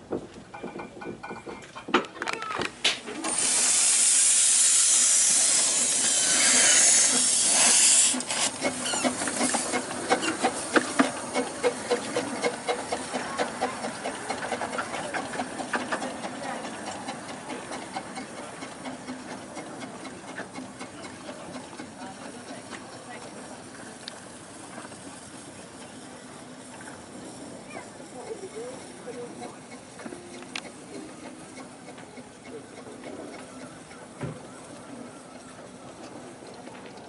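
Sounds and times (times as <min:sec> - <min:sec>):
steam locomotive puffing: 0:03.0 - 0:34.7
steam locomotive hissing steam: 0:03.0 - 0:36.5.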